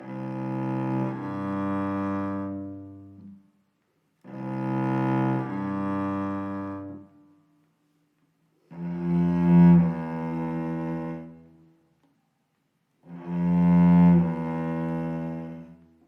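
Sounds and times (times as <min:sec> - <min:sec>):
low string music: 0:00.0 - 0:03.6, 0:04.2 - 0:12.1, 0:12.9 - 0:16.0.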